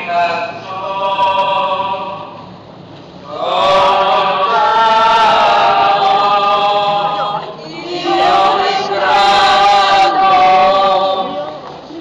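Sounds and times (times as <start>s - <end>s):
group singing a slow hymn: 0.0s - 2.5s, 3.2s - 11.7s.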